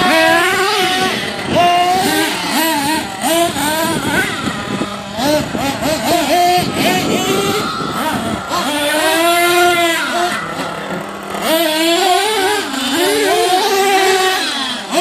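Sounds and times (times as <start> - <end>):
small engine revving: 0.0 - 15.0.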